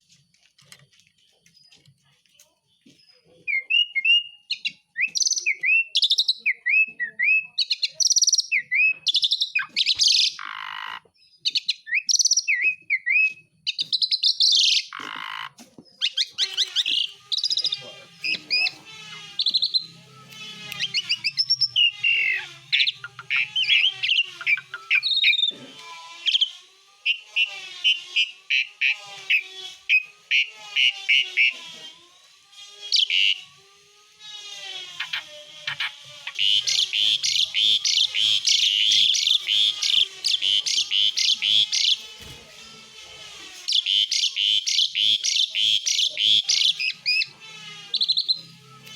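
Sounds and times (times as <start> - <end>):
starling singing: 2.8 - 31.8, 32.8 - 33.6, 34.9 - 48.9.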